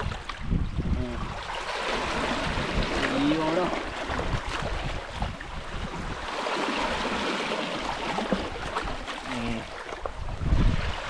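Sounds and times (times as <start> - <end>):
sea water splashing over rocks: 0.0 - 11.0.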